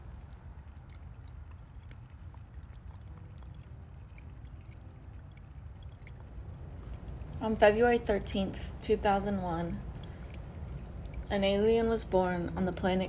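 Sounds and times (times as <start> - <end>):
water drips: 0.0 - 13.0
water trickling and pouring: 0.0 - 13.0.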